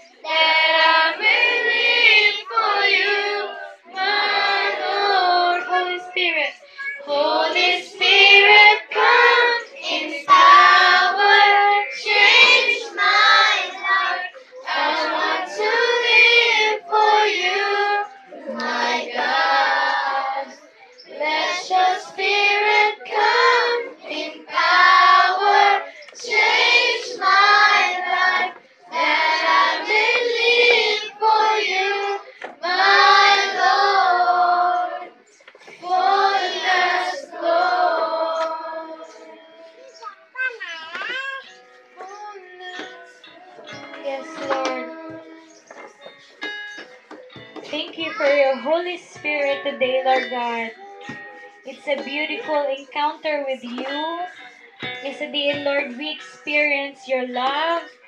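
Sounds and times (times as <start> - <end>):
children singing: 0.0 - 52.9.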